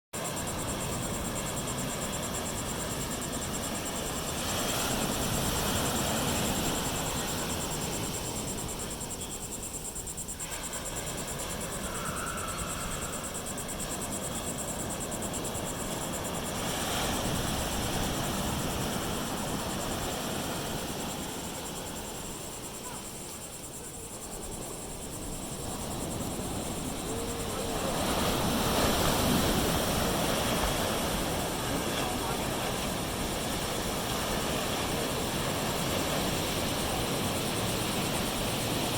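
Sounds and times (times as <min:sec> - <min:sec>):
ocean waves breaking: 0:00.2 - 0:09.6, 0:10.4 - 0:23.0, 0:25.2 - 0:38.9
wind rumbling on microphone: 0:00.2 - 0:38.9.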